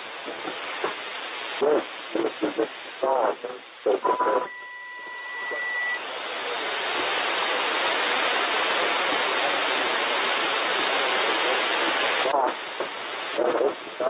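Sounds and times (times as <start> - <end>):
radio static hiss: 0.0 - 14.0
thin steady radio whistle: 1.6 - 13.8.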